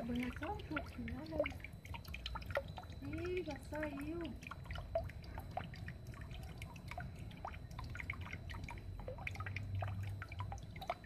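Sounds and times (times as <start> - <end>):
low steady hum: 0.0 - 11.0
water dripping: 0.0 - 11.0.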